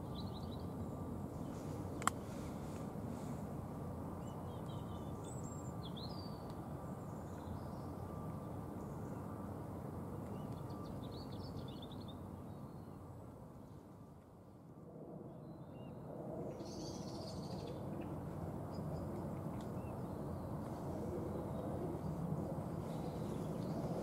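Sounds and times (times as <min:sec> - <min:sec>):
low outdoor background rumble: 0:00.0 - 0:24.0.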